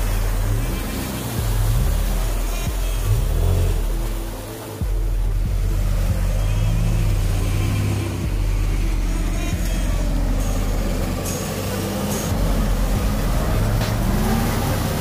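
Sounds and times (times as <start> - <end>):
vehicle engine running under load: 0.0 - 15.0.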